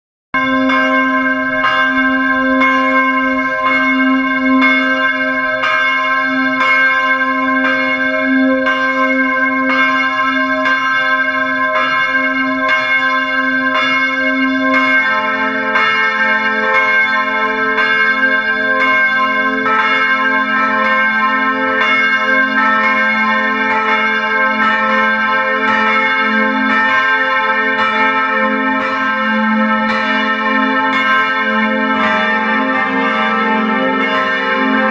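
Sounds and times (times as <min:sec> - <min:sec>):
church bells ringing: 0:00.3 - 0:34.9.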